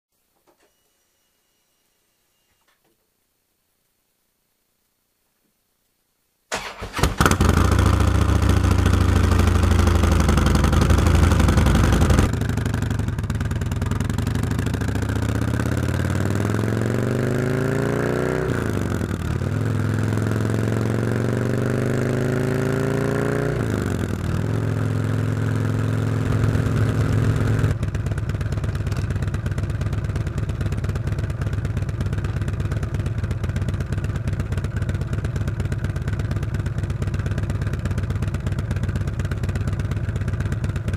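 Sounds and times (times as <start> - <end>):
motorcycle engine revving: 6.5 - 40.9.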